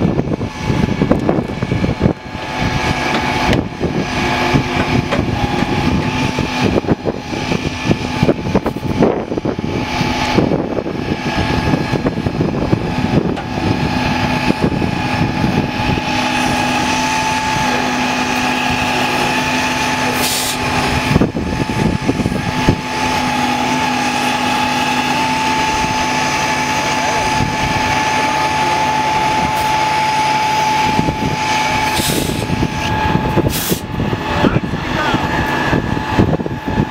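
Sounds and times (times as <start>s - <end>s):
diesel engine whining: 0.0s - 36.9s.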